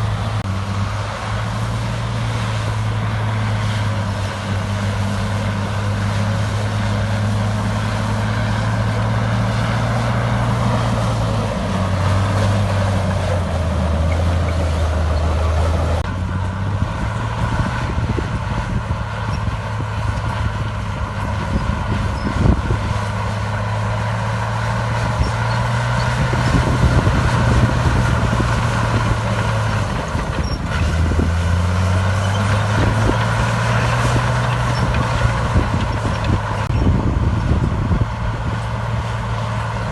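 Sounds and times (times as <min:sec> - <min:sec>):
heavy diesel engine working: 0:00.0 - 0:39.9.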